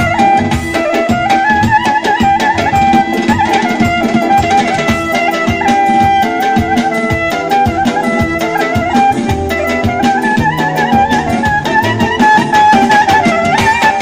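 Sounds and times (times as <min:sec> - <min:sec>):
keyboard folk dance melody: 0:00.0 - 0:14.0
steady drum beat: 0:00.0 - 0:14.0.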